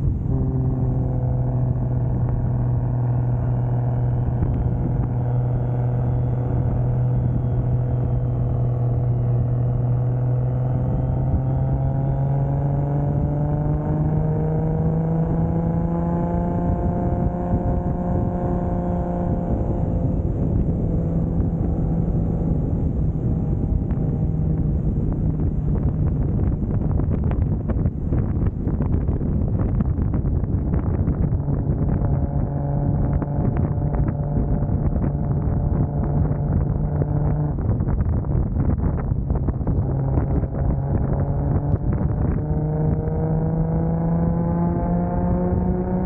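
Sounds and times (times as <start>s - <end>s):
car engine cruising: 0.0s - 46.0s
road noise: 0.0s - 46.0s.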